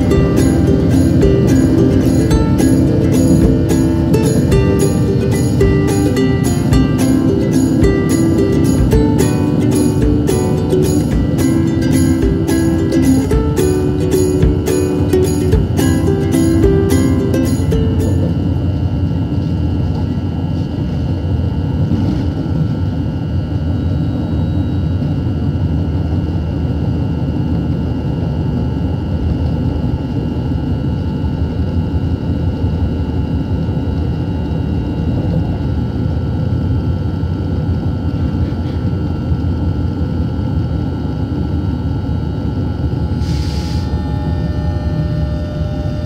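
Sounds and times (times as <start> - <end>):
thin steady whine: 0.0 - 46.0
train rumble inside carriage: 0.0 - 46.0.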